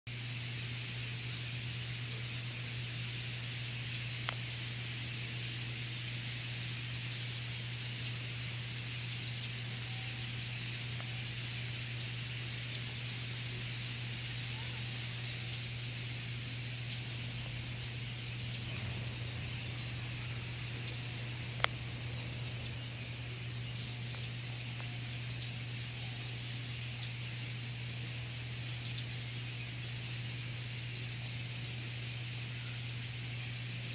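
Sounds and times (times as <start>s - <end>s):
low hum: 0.1s - 33.1s
flock of birds chirping: 0.1s - 33.9s.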